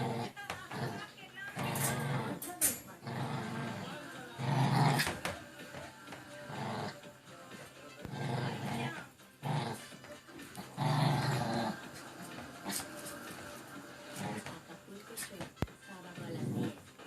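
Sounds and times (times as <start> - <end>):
background music: 0.0 - 17.0
puppy growling: 0.0 - 17.0.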